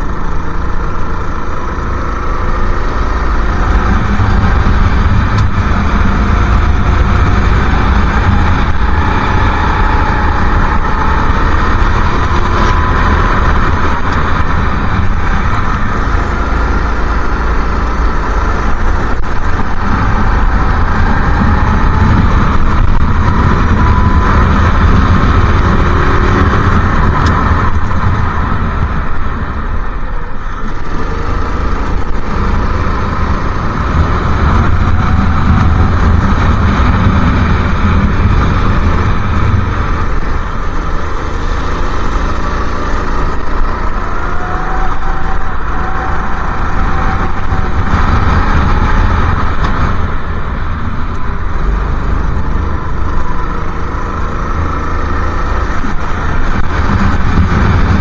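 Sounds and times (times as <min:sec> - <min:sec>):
go-kart engine revving: 0:00.0 - 0:58.0
steady low rumble: 0:00.0 - 0:58.0.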